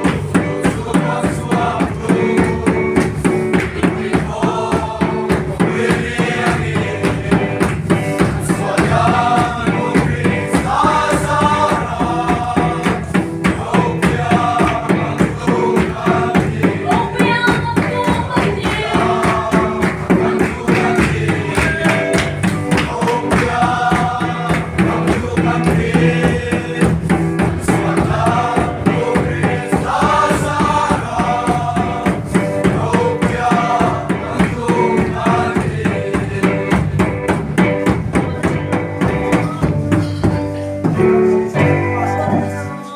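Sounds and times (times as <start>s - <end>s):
steady drum beat: 0.0s - 42.6s
group of voices singing: 0.0s - 42.9s.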